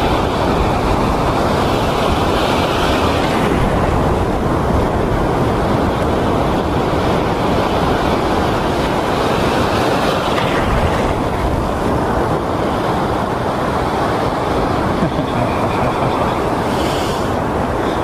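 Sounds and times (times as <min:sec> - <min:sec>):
surf rushing over rocks: 0:00.0 - 0:18.0
wave breaking: 0:00.0 - 0:18.0.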